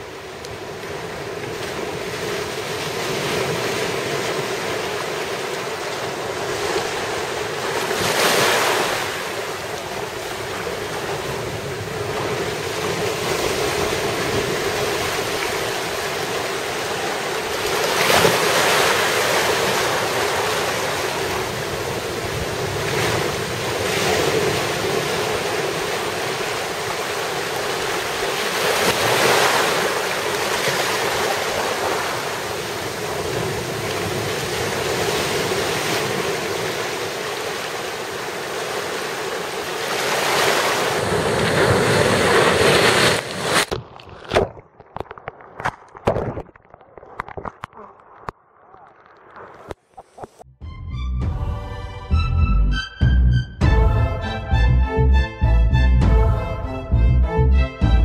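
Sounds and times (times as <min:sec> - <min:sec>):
sea waves breaking on rocks: 0:00.0 - 0:50.0.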